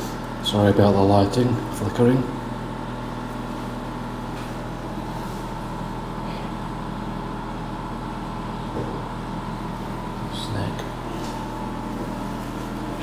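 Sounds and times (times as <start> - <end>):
machinery hum with electrical drone: 0.0 - 13.0.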